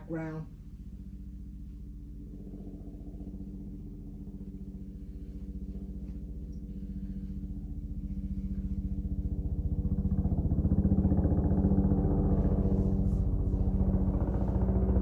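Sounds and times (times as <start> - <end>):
helicopter rotor throbbing: 2.0 - 15.0.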